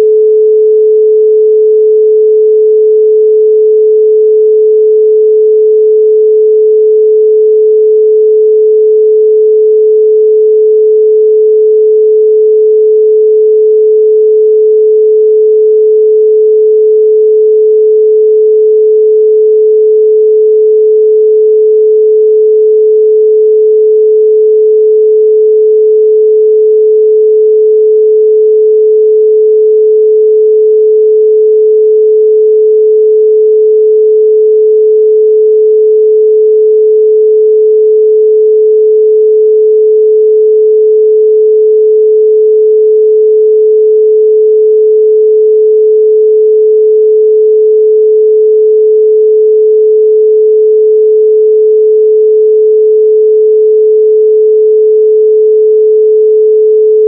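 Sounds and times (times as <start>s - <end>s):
steady pure sine tone: 0.0s - 57.0s.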